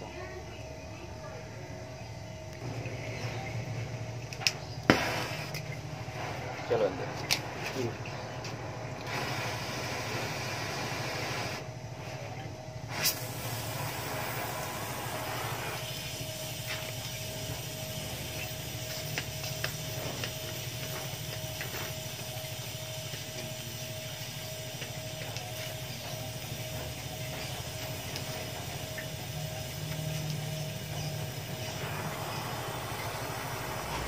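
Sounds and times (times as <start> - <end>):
arc welding crackling hiss: 4.2 - 34.0.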